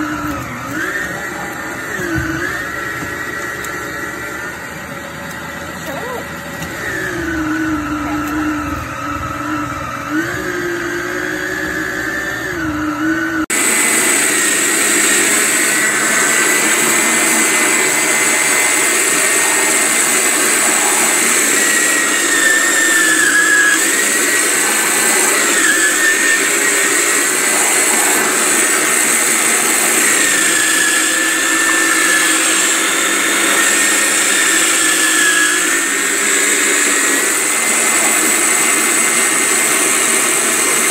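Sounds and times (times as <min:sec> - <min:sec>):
machine motor whining: 0:00.0 - 0:40.9.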